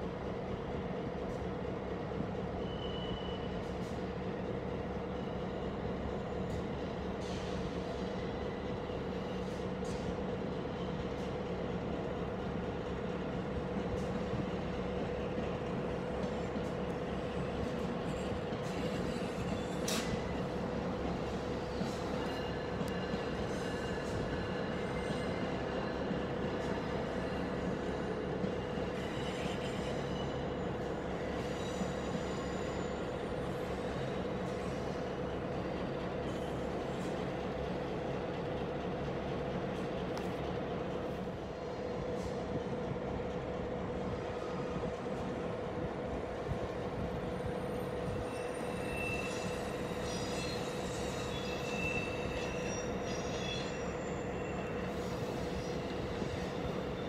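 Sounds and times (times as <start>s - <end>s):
train humming and rumbling: 0.0s - 57.0s.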